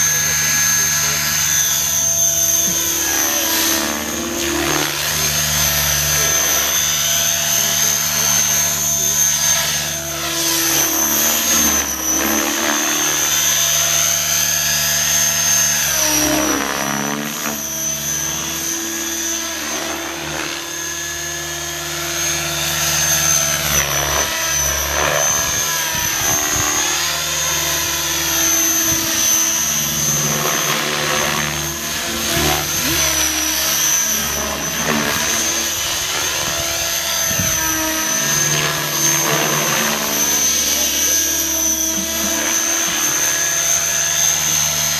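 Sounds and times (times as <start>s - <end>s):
model helicopter rotor whine: 0.0s - 44.9s.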